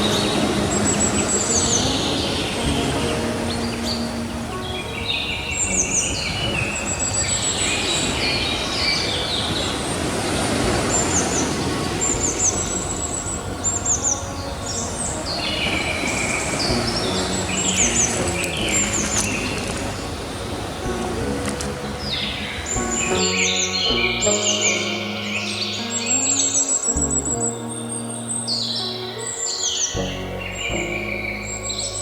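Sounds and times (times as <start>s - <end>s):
birds chirping and trilling: 0.0s - 32.0s
ocean surf: 0.0s - 32.0s.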